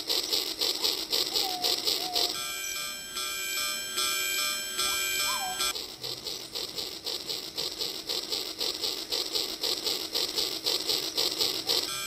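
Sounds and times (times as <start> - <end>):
toy steam train chuffing: 0.0 - 12.0.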